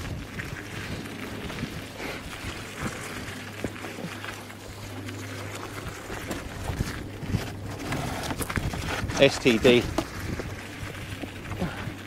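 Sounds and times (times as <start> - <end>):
low steady hum: 0.0 - 12.0
tyres crunching on gravel: 0.0 - 12.0.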